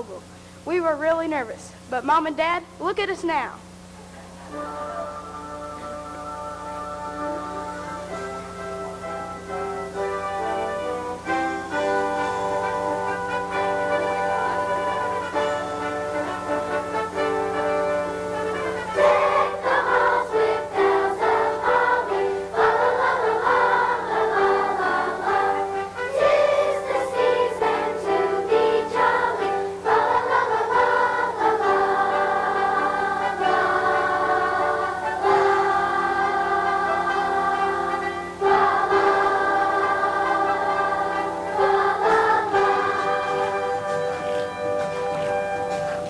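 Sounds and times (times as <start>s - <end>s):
children's choir singing: 6.9s - 46.0s.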